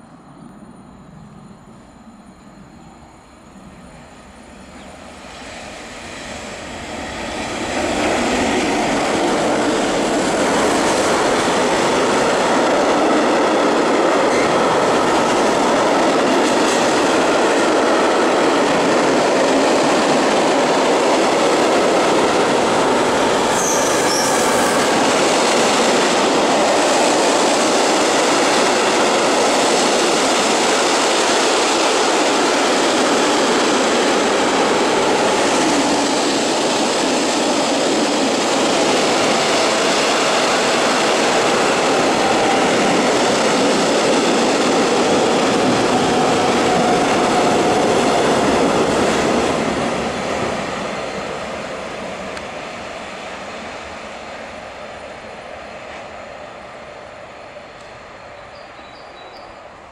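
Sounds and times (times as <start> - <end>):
electric locomotive passing: 0.0 - 59.9
steel wheels on rail: 3.6 - 52.9.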